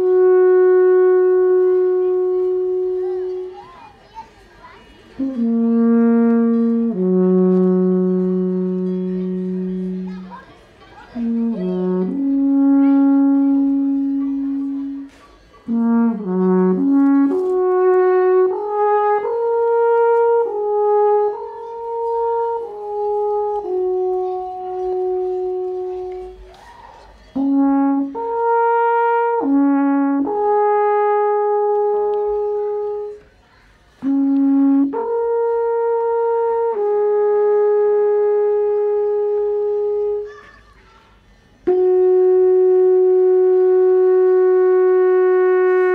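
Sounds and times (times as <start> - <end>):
alphorn playing slow melody: 0.0 - 3.6, 5.2 - 10.4, 11.2 - 26.5, 27.3 - 33.2, 33.9 - 40.3, 41.6 - 45.9.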